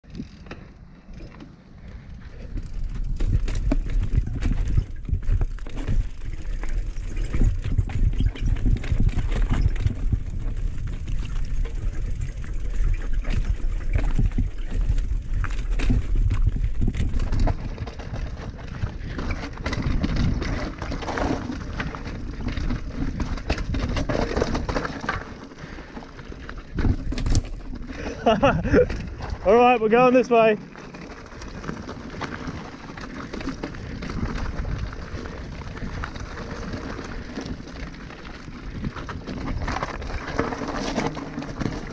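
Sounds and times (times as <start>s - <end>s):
bike rattling and knocking: 0.0s - 41.9s
bike tyres crunching over rock: 0.0s - 41.9s.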